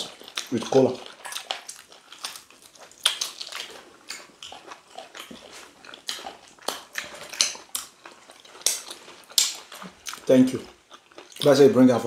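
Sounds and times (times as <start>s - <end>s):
wet chewing and mouth smacks: 0.0s - 11.6s.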